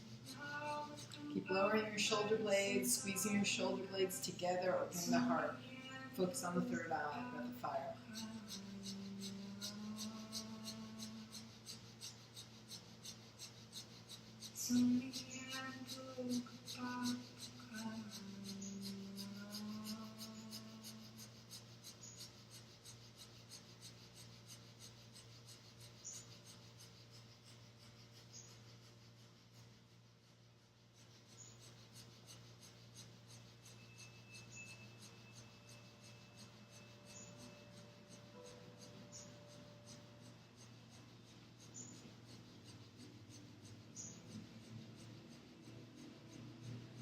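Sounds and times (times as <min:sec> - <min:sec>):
rapid breaths through nose: 0:00.0 - 0:47.0
steady low hum: 0:00.0 - 0:47.0.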